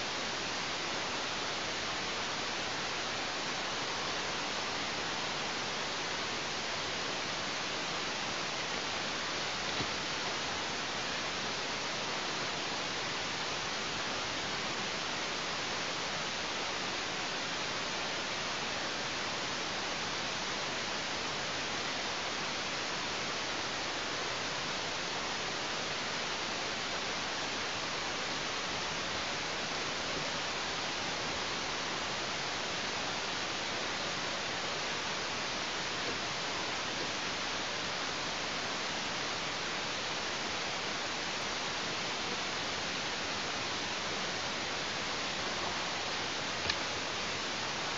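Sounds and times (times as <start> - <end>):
microphone static hiss: 0.0 - 47.9.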